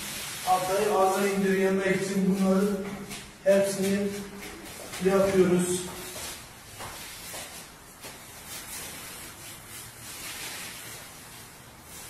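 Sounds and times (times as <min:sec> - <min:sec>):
paint roller swishing on wall: 0:00.0 - 0:12.0.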